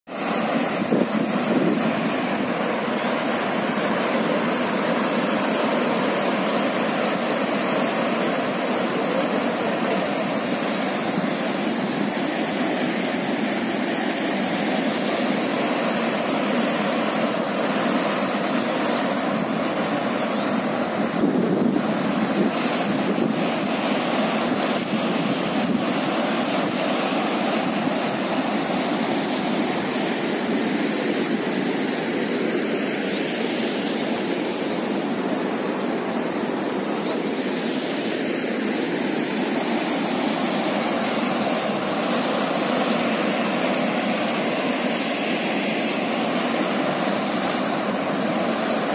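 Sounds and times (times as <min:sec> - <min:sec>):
water rushing in torrent: 0:00.0 - 0:48.9.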